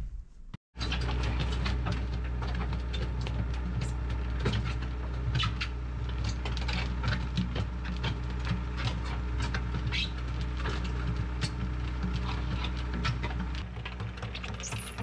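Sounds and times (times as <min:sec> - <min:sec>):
diesel engine running: 0:00.8 - 0:15.0.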